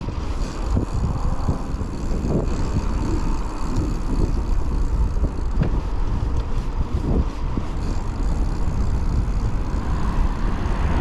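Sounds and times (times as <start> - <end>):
mountain bike rumble and knocks: 0.0 - 11.0
wind buffeting microphone: 0.0 - 11.0.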